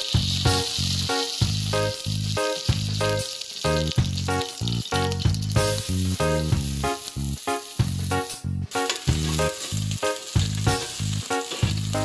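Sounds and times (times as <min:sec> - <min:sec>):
music with repeating beat: 0:00.0 - 0:12.0
onions sizzling in oil: 0:00.0 - 0:12.0.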